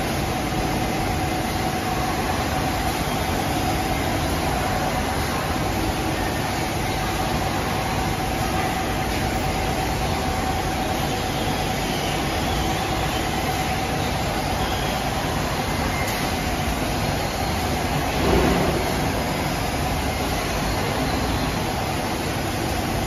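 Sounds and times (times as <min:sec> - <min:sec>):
machine hum with thin whine: 0:00.0 - 0:23.0.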